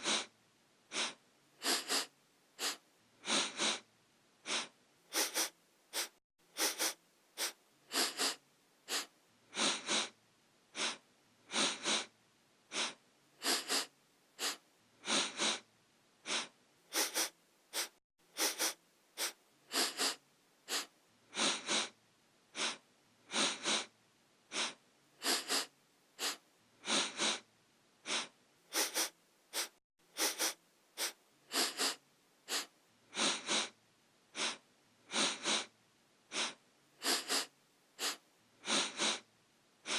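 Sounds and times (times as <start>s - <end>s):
person sniffing: 0.0s - 0.3s, 0.9s - 12.1s, 12.7s - 23.9s, 24.5s - 39.9s.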